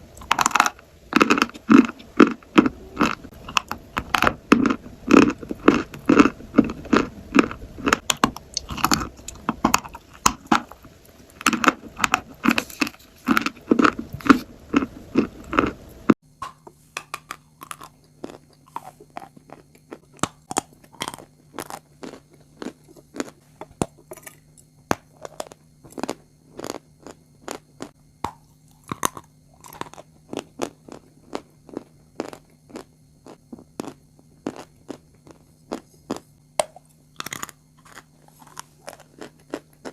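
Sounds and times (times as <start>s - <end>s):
steady low hum: 0.0s - 39.9s
crunchy chewing: 0.1s - 39.9s.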